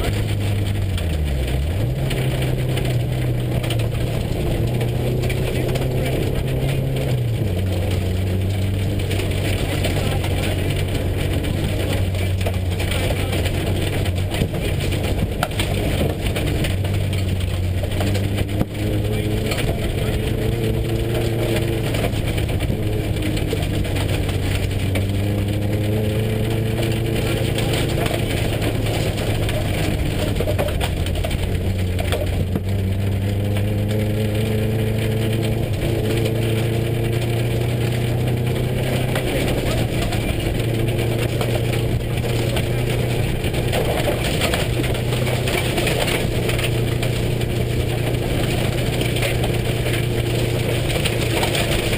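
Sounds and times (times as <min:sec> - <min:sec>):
car engine running inside cabin: 0:00.0 - 0:51.9
road noise: 0:00.0 - 0:51.9.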